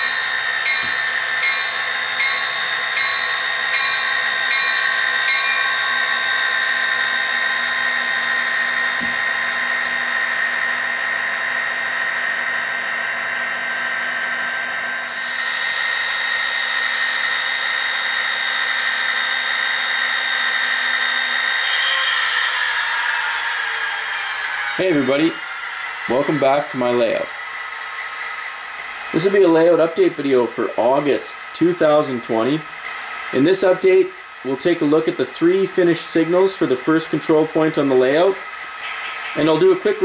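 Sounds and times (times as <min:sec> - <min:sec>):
model train motor whine: 0:00.0 - 0:40.0.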